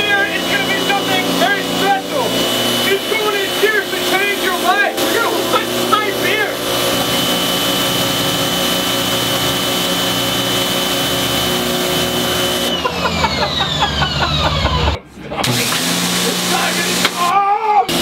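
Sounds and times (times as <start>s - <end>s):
machine running with high whine: 0.0s - 15.0s.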